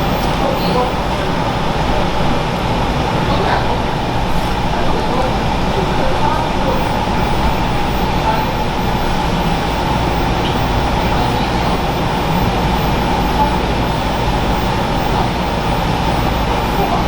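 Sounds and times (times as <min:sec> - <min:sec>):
faint voices: 0:00.0 - 0:17.0
loud rumbling noise: 0:00.0 - 0:17.0.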